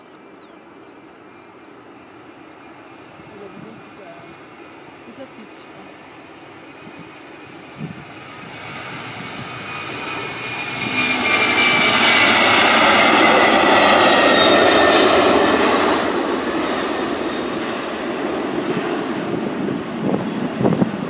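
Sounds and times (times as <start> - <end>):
jet engines roaring at take-off: 0.0 - 21.0.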